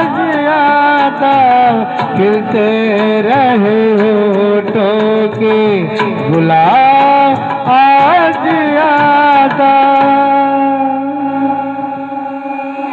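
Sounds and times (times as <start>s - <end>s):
person singing wordless melody: 0.0s - 12.9s.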